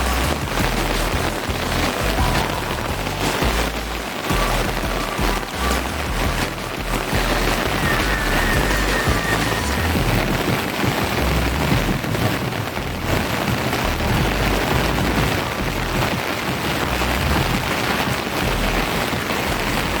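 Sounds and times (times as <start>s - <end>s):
heavy rain falling: 0.0s - 20.0s
low uneven rumble: 0.0s - 20.0s.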